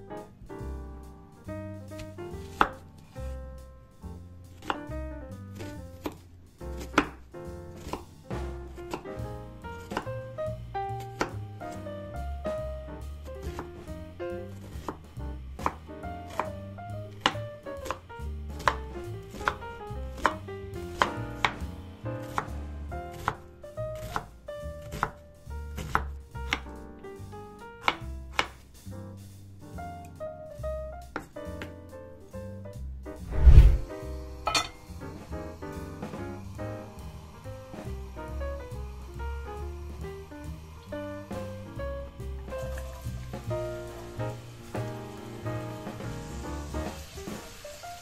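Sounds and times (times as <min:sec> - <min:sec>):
background music: 0:00.0 - 0:48.0.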